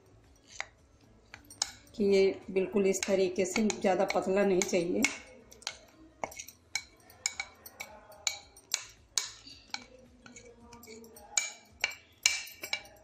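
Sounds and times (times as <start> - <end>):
utensil clinking on mixing bowl: 0.0 - 13.0.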